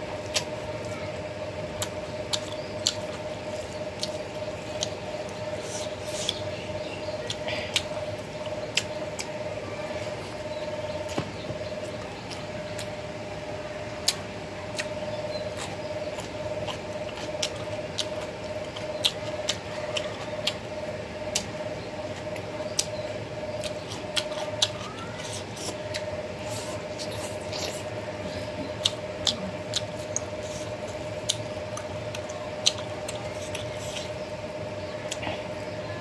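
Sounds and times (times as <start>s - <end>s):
steady hum: 0.0s - 36.0s
wet chewing and smacking: 0.2s - 1.0s, 1.6s - 9.4s, 10.4s - 13.0s, 14.0s - 35.6s.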